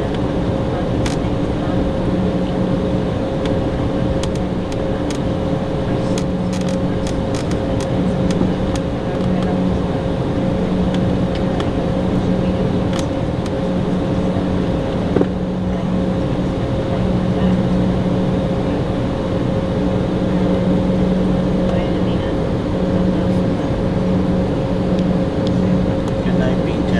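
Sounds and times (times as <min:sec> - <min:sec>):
jet engines humming in cabin: 0:00.0 - 0:26.9.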